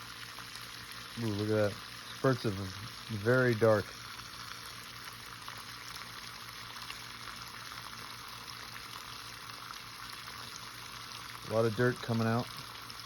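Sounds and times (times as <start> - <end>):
water running from drain: 0.0 - 13.0.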